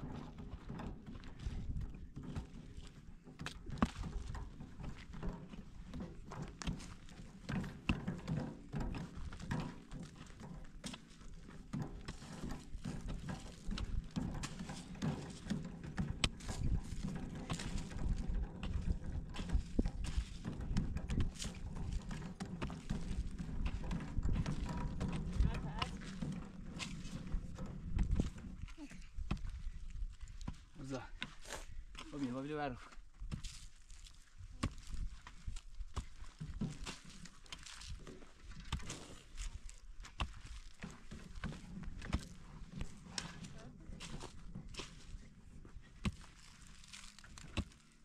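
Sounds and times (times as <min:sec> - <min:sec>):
mattock digging stony soil: 0:00.0 - 0:48.0.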